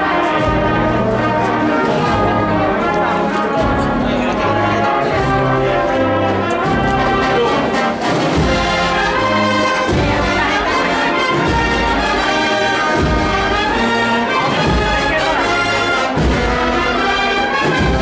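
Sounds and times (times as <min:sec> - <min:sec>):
brass and drum band playing march: 0:00.0 - 0:18.0.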